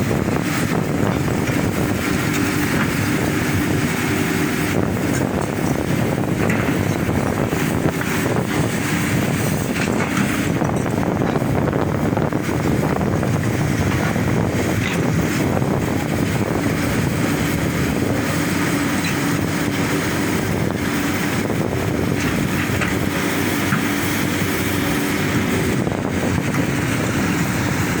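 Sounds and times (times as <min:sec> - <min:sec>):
diesel engine running under load: 0:00.0 - 0:28.0.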